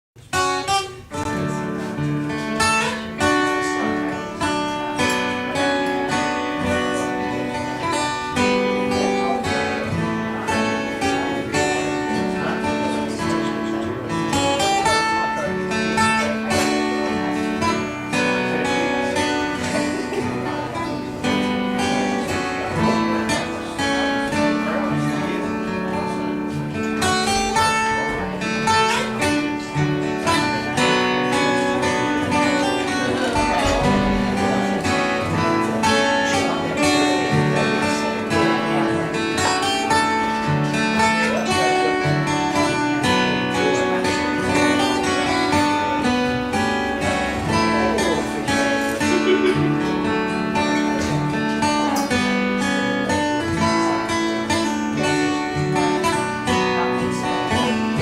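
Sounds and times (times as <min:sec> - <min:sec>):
plucked string instrumental music: 0:00.2 - 0:58.0.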